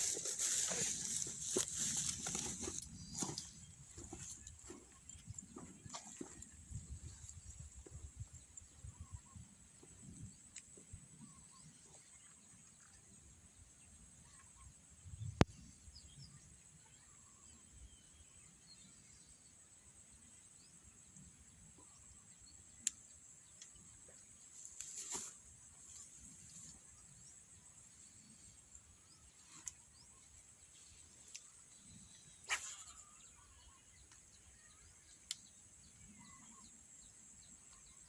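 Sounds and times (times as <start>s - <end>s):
faint bird chirps: 0.0s - 38.0s.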